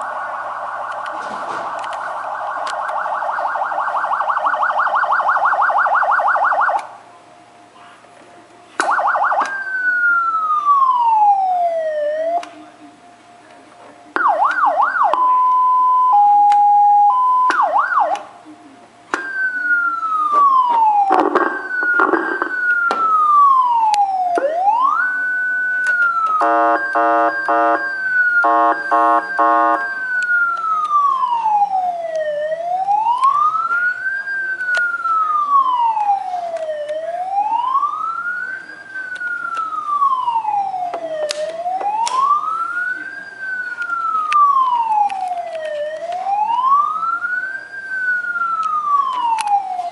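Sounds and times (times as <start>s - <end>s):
electronic police siren: 0.0s - 7.0s, 8.8s - 12.6s, 14.1s - 18.4s, 19.1s - 49.9s.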